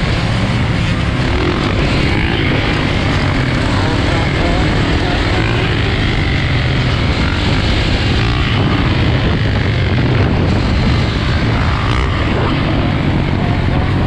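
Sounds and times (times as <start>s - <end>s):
dirt bike engines running: 0.0s - 14.0s
wind rushing over camera: 0.0s - 14.0s.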